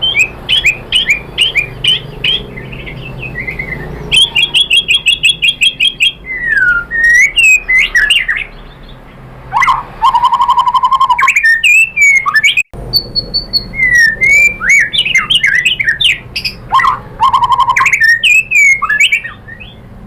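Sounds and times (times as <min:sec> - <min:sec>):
songbird singing varied song: 0:00.0 - 0:20.0.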